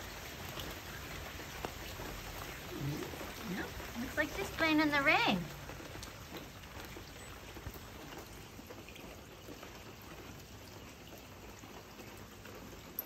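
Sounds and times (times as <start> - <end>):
rain falling on wet patio: 0.0 - 13.0.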